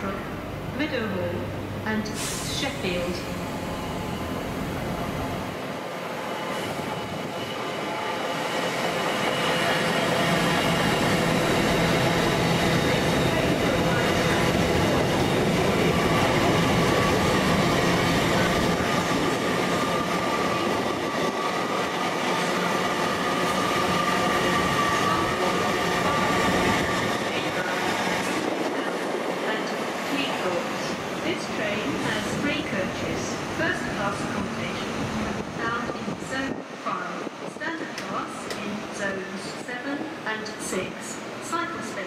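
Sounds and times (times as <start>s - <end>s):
high-speed train passing: 0.0s - 42.0s.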